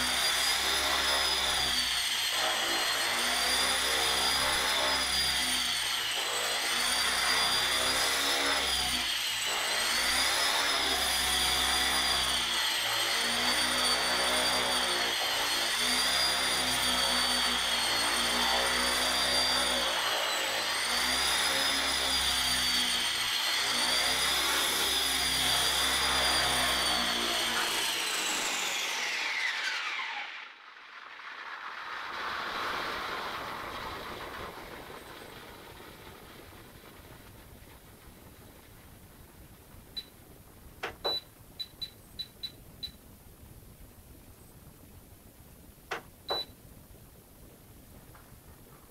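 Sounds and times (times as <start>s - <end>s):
rc helicopter rotor whine: 0.0s - 40.2s.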